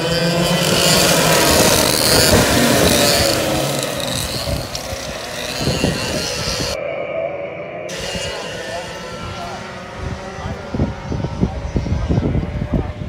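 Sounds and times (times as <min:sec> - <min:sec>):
racing kart engines revving past: 0:00.0 - 0:06.8, 0:07.9 - 0:13.0.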